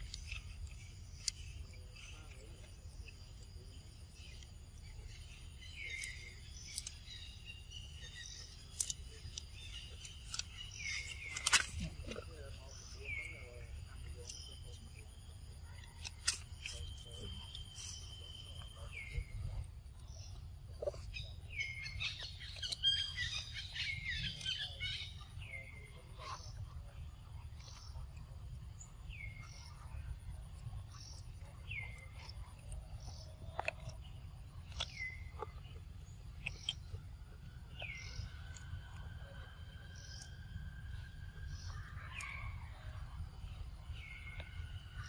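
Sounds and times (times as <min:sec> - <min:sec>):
birds chirping: 0:00.0 - 0:45.0
low outdoor rumble: 0:00.0 - 0:45.0.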